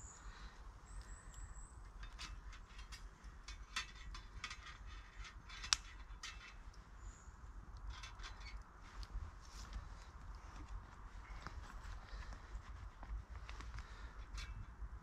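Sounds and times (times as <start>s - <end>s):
wood fire crackling in stove: 0.0s - 15.0s.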